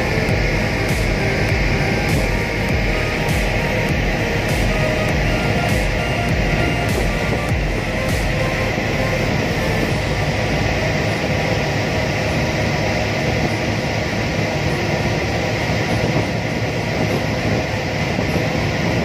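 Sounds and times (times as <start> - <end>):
boat diesel engine rumble: 0.0 - 19.0
wind: 0.0 - 19.0.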